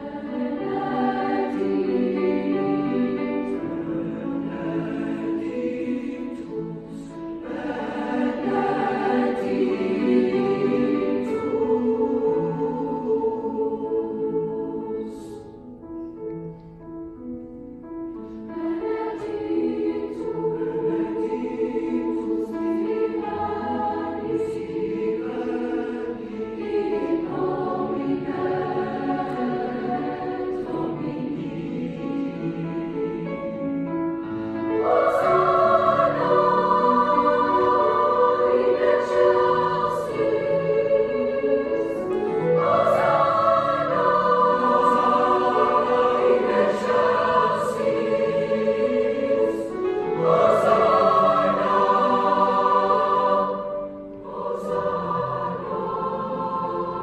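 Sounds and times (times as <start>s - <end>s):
choir singing sacred music: 0.0s - 57.0s
piano accompaniment: 0.0s - 57.0s.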